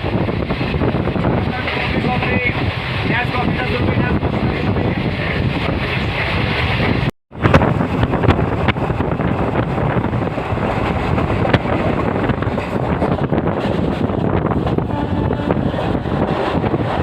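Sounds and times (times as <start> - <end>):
train rumble: 0.0 - 17.0
wind buffeting microphone: 0.0 - 17.0.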